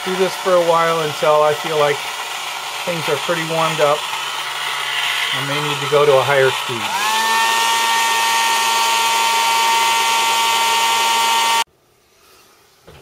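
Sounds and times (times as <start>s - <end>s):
hot-air blower motor whine: 0.0s - 11.7s.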